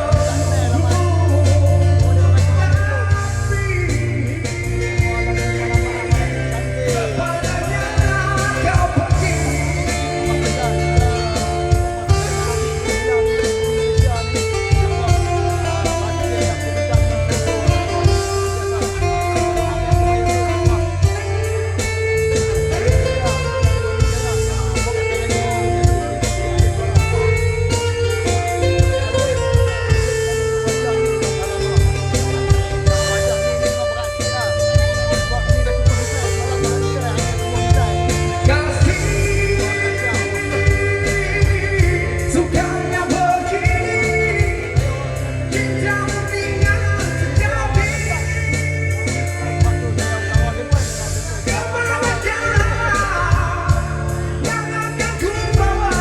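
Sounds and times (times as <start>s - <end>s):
bass line: 0.0s - 56.0s
drum beat: 0.0s - 56.0s
guitar melody: 0.0s - 56.0s
person singing: 0.0s - 56.0s
slow rock band playing: 0.0s - 56.0s.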